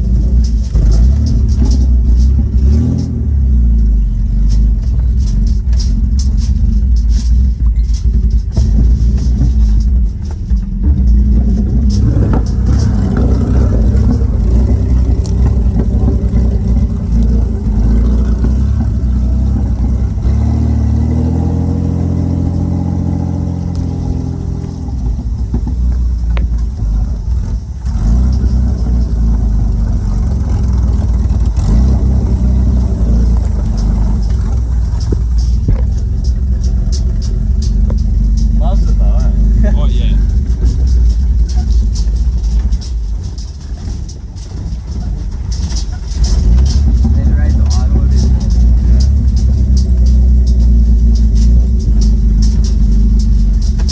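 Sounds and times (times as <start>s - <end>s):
loud engine revving: 0.0s - 5.3s, 10.8s - 42.1s, 45.7s - 53.9s.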